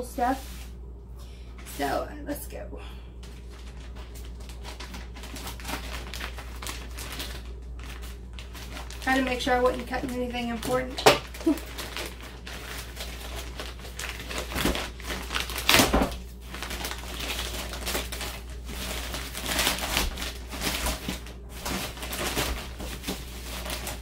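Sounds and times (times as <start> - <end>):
bubble wrap crinkling: 3.2 - 24.0.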